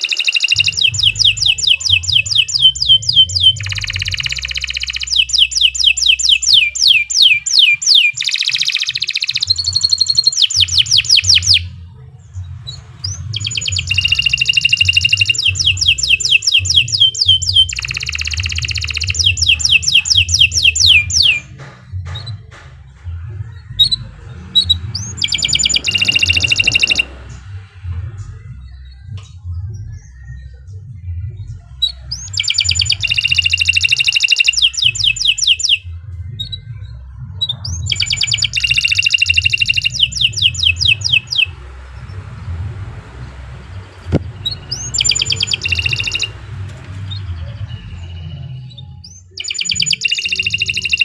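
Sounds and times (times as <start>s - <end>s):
canary singing trills: 0.0s - 51.0s
low rumble: 0.6s - 5.9s, 9.4s - 33.5s, 34.8s - 49.4s.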